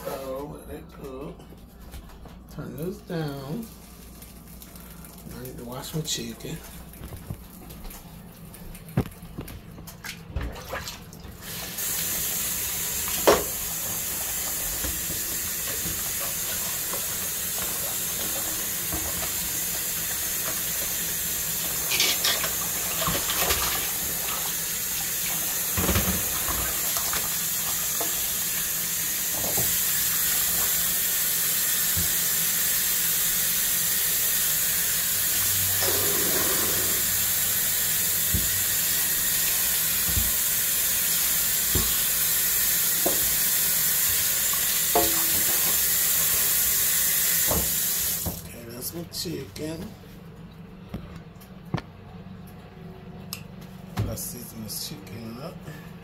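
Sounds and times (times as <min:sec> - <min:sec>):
tap water running into sink: 0:03.4 - 0:48.5.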